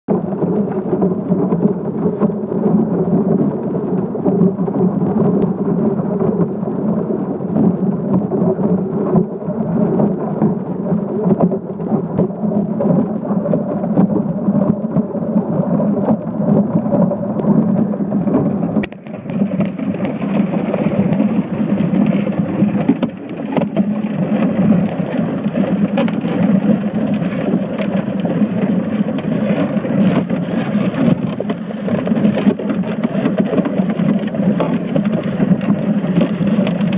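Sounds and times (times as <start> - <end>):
underwater rumble and hiss: 0.1 - 36.9.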